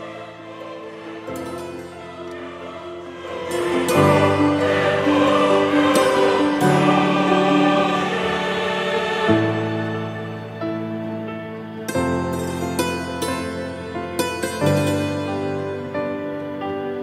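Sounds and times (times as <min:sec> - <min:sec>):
background music with held chords: 0:00.0 - 0:17.0.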